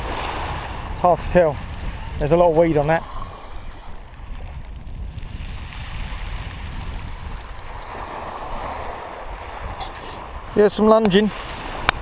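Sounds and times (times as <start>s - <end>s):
waves washing on shingle: 0.0s - 12.0s
wind buffeting microphone: 0.0s - 12.0s.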